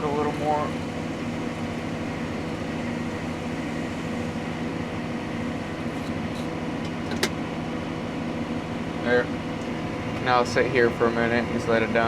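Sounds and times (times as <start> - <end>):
tractor diesel engine drone: 0.0 - 12.0.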